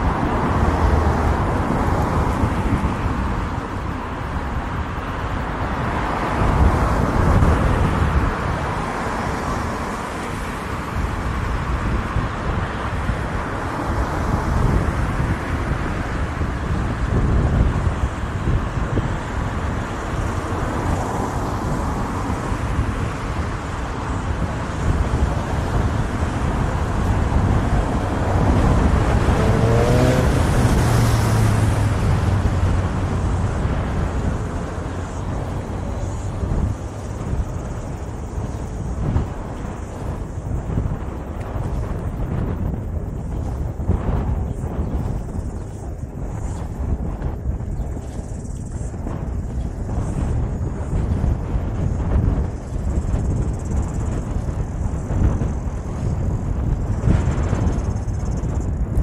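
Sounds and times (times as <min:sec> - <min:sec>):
road traffic: 0:00.0 - 0:59.0
skate wheels rolling on pavement: 0:00.0 - 0:59.0.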